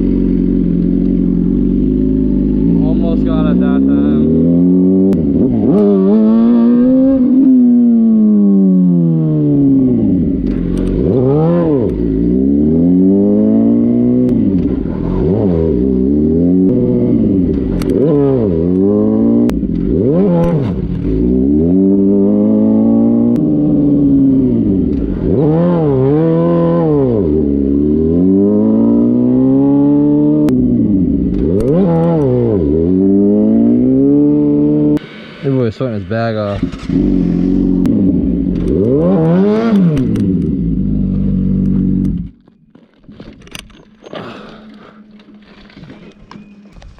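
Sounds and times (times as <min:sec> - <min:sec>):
motorcycle engine revving: 0:00.0 - 0:42.6.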